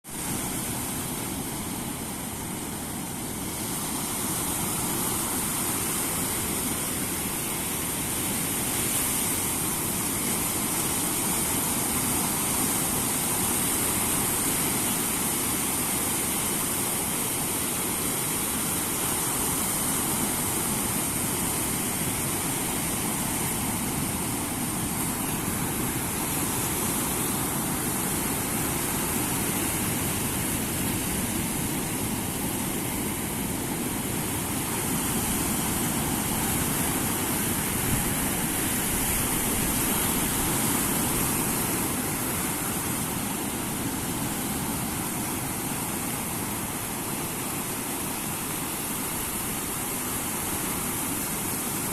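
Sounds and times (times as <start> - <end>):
wind: 0.0 - 51.9
surf: 0.1 - 51.9.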